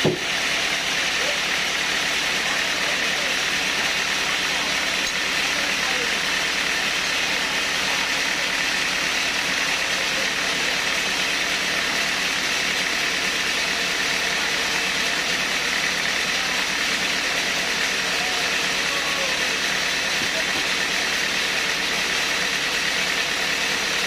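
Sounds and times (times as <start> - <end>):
sawmill saw whining: 0.0 - 24.0.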